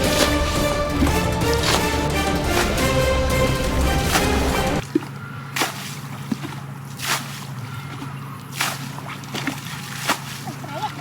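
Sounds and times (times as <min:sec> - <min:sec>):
wet sloshing strokes: 0:00.0 - 0:11.0.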